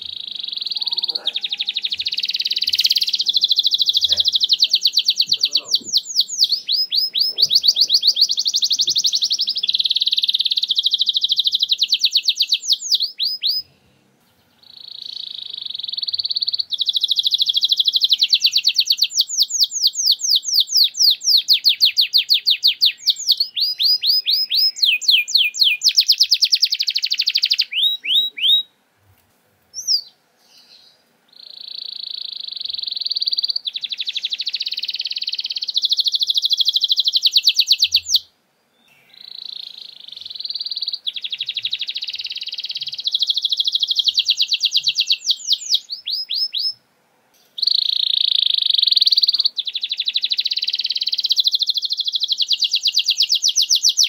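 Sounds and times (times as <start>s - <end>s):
canary singing trills: 0.0s - 13.8s, 14.4s - 28.7s, 29.7s - 46.8s, 47.4s - 54.0s.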